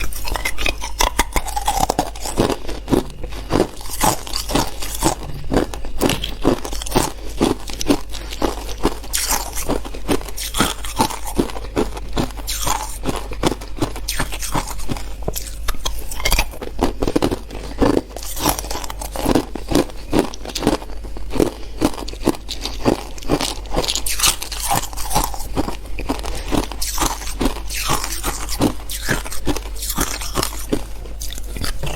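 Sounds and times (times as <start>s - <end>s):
ice crunching being chewed: 0.0s - 31.9s.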